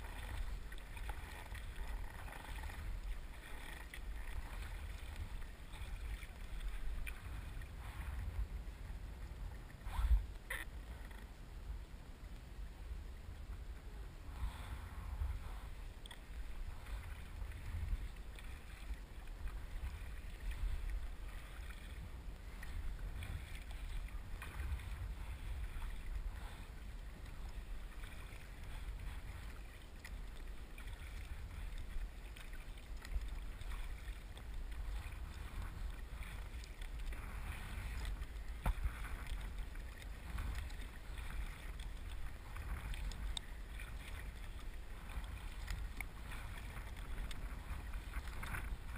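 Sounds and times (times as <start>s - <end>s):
kayak paddles splashing water: 0.0s - 48.9s
low wind rumble on microphone: 0.0s - 48.9s.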